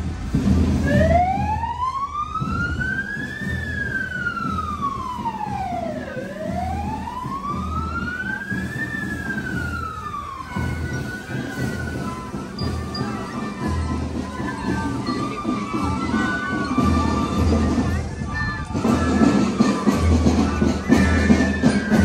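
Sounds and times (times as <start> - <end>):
siren wailing: 0.8 - 22.0.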